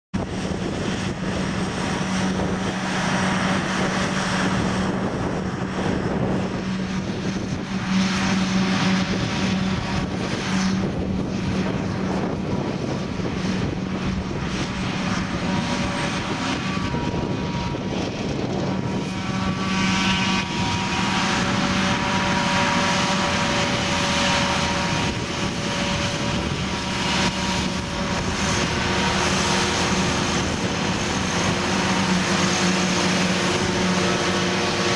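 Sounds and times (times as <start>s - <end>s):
forage harvester engine drone: 0.1s - 34.9s
machinery whining: 0.2s - 34.9s.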